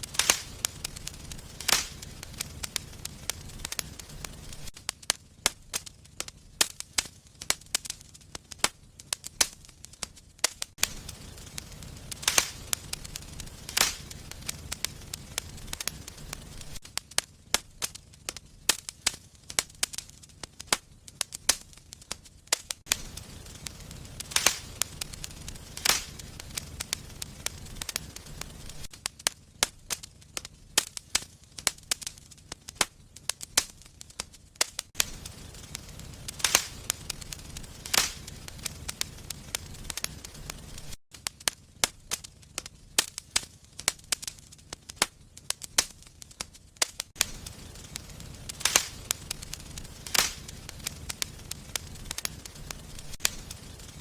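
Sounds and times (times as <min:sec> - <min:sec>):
loud sharp fire pops: 0:00.0 - 0:54.0
low rumble of flames: 0:00.0 - 0:54.0
wood fire crackling: 0:00.0 - 0:54.0.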